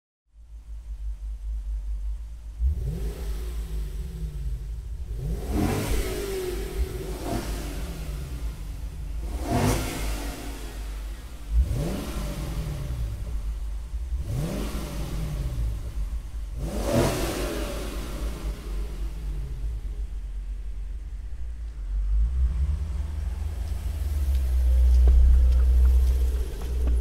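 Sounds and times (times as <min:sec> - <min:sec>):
car engine revving: 0:01.7 - 0:27.0.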